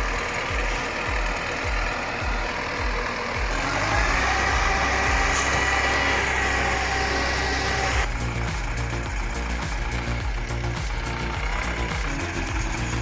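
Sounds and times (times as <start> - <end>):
diesel engine running under load: 0.0 - 13.0
engine whine: 0.0 - 13.0.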